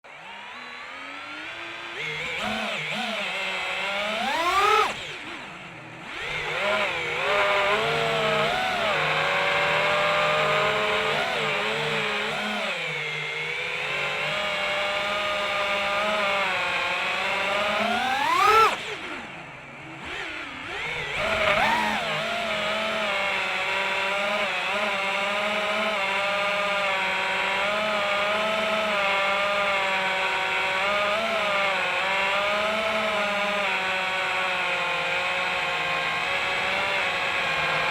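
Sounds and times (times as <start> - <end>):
drone motors whining: 0.1 - 37.9.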